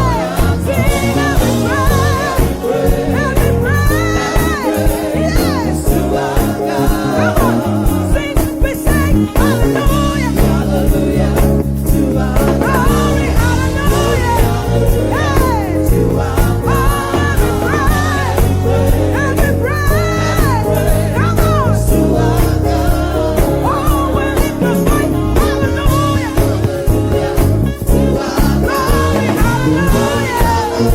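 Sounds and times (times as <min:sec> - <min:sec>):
band with drum beat and bass: 0:00.0 - 0:30.9
person singing gospel melody: 0:00.0 - 0:30.9.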